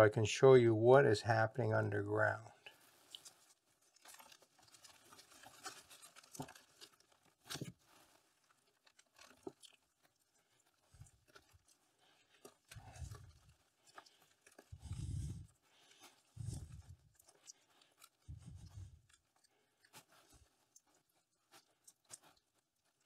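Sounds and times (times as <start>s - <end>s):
potting soil crumbling and rustling: 1.6s - 23.0s.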